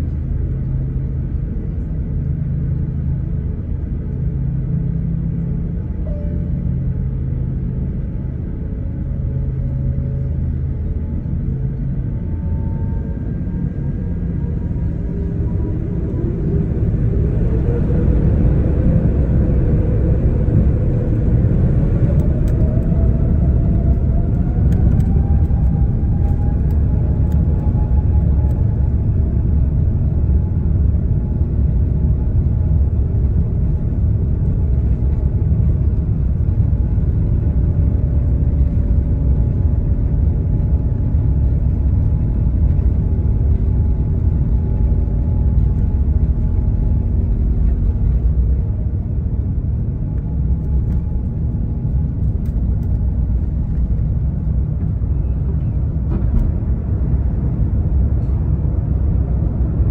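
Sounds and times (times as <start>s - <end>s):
jet engine rumble in cabin: 0.0s - 59.9s
jet engine whine: 0.0s - 59.9s.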